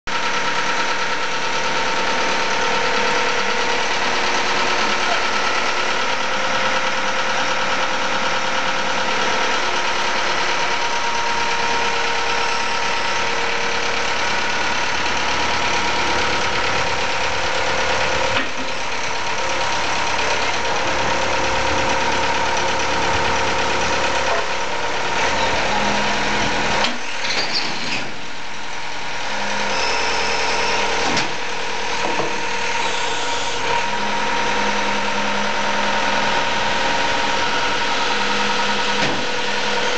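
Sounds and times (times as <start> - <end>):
backhoe engine running: 0.1 - 39.9.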